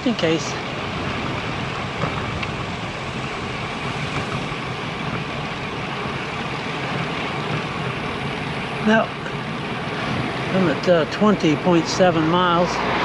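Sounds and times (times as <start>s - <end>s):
wind rushing over microphone: 0.0s - 8.8s, 9.4s - 13.0s
tyres rolling on pavement: 0.0s - 13.0s.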